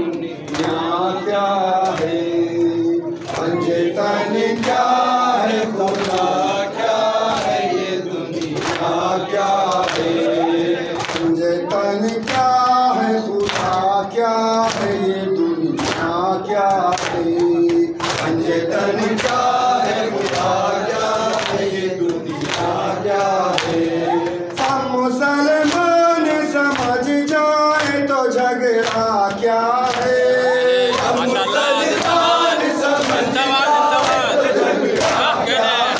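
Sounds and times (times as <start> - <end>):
men chanting into a microphone: 0.0 - 35.9.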